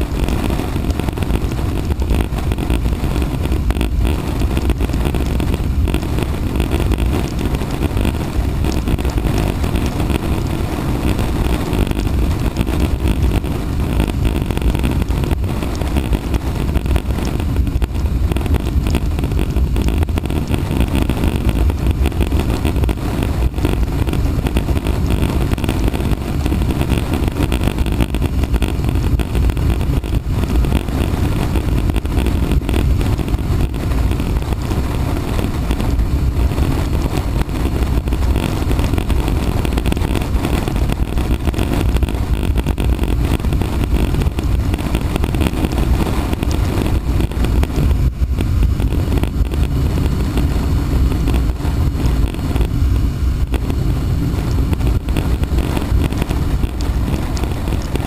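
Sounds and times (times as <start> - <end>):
motorcycle engine drone: 0.0 - 58.0
wind rumble on microphone: 0.0 - 58.0.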